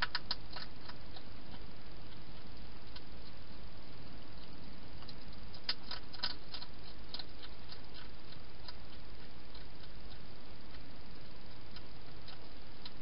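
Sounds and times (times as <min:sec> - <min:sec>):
hedgehog eating clicks and smacks: 0:00.0 - 0:03.7, 0:04.3 - 0:13.0
steady hiss: 0:00.0 - 0:13.0.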